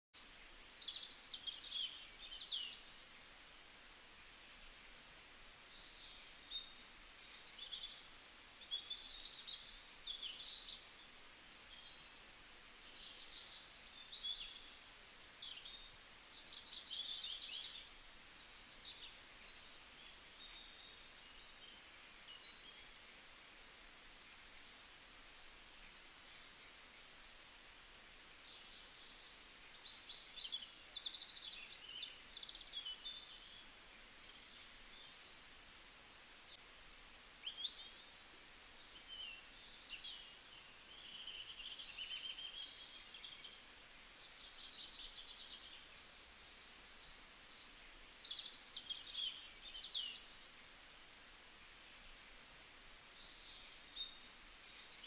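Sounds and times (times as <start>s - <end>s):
small birds chirping: 0.1s - 55.0s
light background hiss: 0.2s - 55.0s.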